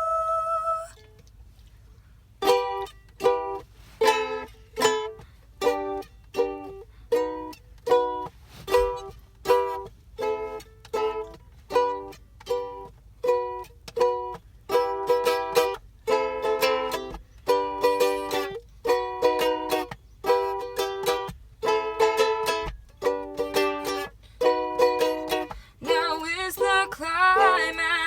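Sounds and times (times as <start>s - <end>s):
strummed acoustic chords: 2.4s - 28.0s.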